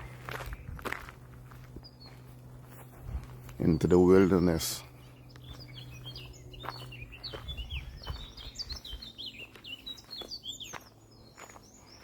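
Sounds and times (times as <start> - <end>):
wild birds chirping and singing: 0.0 - 12.0.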